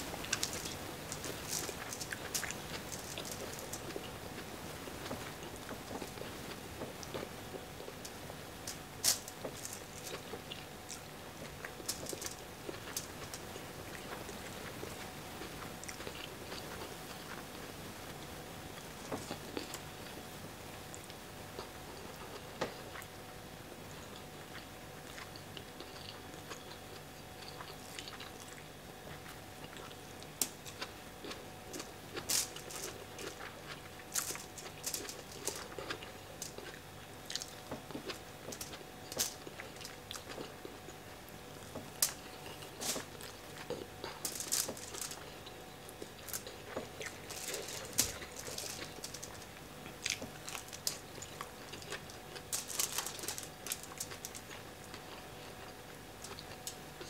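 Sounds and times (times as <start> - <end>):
small crunches: 0.0 - 4.2, 5.0 - 17.7, 18.8 - 20.2, 24.0 - 41.0, 41.6 - 57.0
person chewing food: 0.0 - 18.2, 18.8 - 20.2, 24.0 - 57.0.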